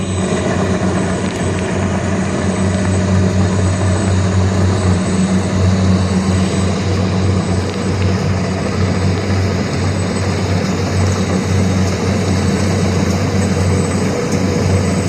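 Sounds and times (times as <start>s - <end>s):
combine harvester engine droning: 0.0s - 15.0s.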